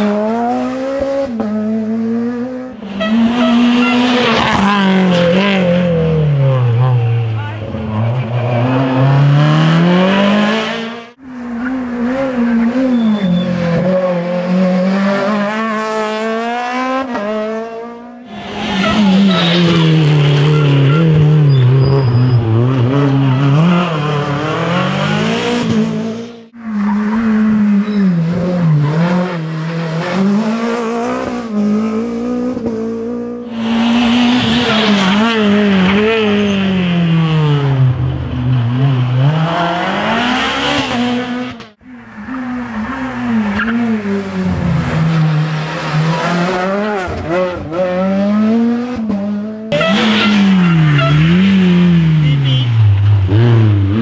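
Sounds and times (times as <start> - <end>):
rally car engines at high revs: 0.0 - 54.0.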